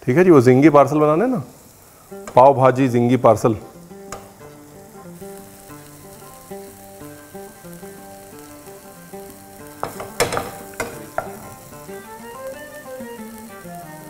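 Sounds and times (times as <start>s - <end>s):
soft background music: 2.2s - 14.0s.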